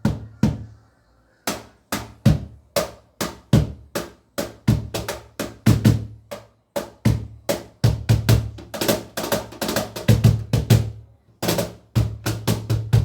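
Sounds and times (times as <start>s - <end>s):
cajon played by hand: 1.5s - 13.0s.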